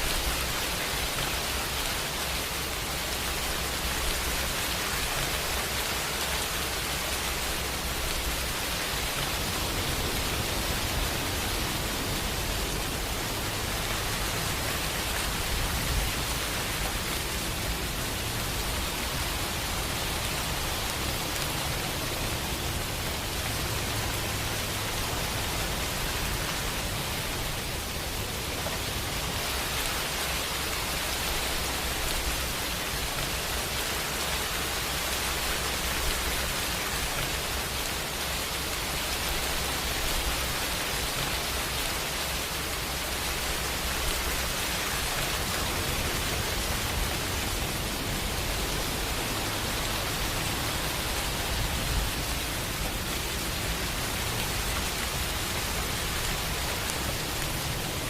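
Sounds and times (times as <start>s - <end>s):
loud raindrop ticks: 0.0s - 58.0s
steady rain hiss: 0.0s - 58.0s.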